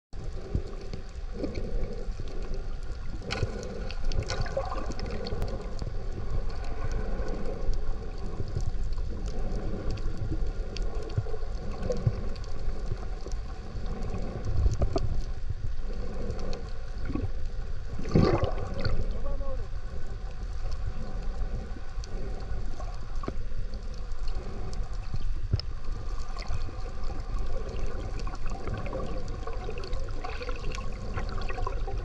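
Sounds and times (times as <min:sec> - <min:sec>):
clicks and crackles: 0:00.2 - 0:32.0
muffled underwater water movement: 0:00.2 - 0:32.0.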